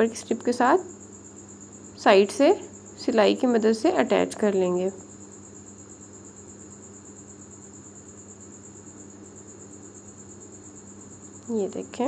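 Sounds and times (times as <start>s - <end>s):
cricket trilling: 0.0s - 12.0s
faint low electrical hum: 0.0s - 12.0s.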